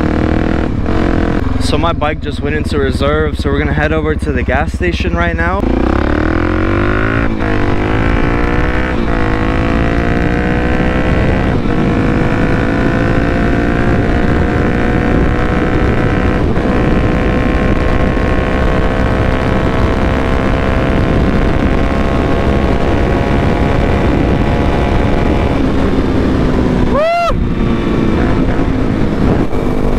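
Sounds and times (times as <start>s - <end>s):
motorcycle engine shifting gears: 0.0s - 29.9s.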